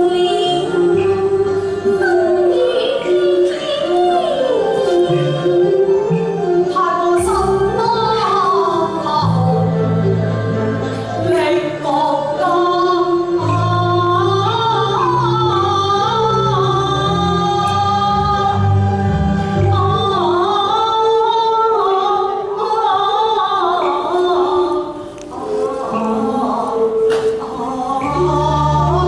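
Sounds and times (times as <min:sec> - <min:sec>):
instrumental accompaniment: 0:00.0 - 0:29.0
person singing opera: 0:00.0 - 0:29.0.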